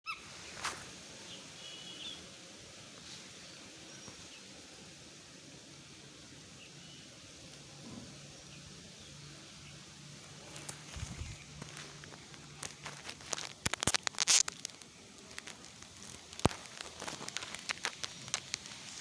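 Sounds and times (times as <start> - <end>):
outdoor background noise: 0.1 - 19.0.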